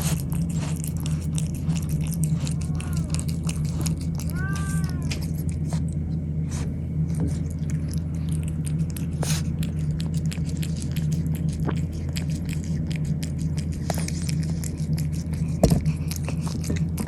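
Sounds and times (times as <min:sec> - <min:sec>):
cat chewing food: 0:00.0 - 0:17.0
low hum: 0:00.0 - 0:17.0.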